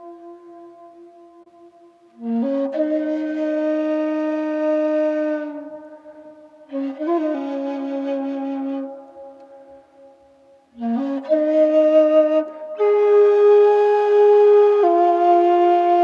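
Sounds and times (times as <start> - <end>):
breathy flute playing long notes: 0.0 - 16.0.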